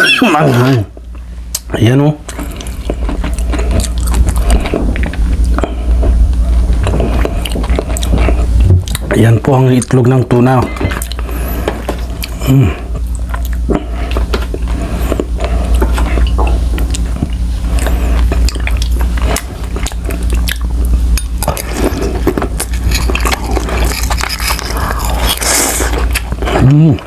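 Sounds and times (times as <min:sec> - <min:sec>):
steady low hum: 0:00.0 - 0:27.0
wet chewing: 0:01.5 - 0:10.0, 0:10.7 - 0:27.0.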